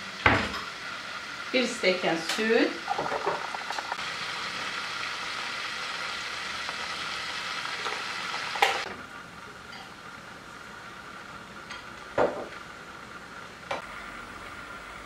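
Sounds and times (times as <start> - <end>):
butter sizzling in a pan: 0.0 - 15.0.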